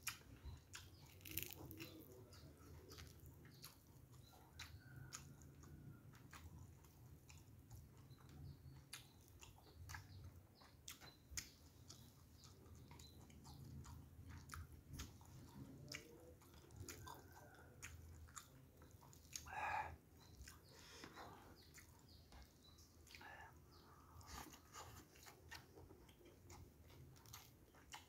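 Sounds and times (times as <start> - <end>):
close-up chewing: 0.0 - 28.0
mouth clicks and lip smacks: 0.0 - 28.0.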